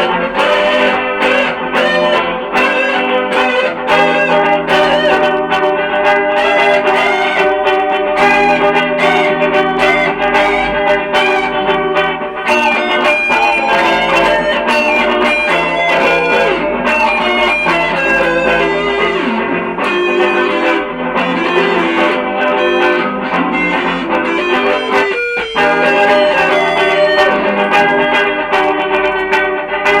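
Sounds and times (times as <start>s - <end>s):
layered electric guitar loops: 0.0s - 30.0s.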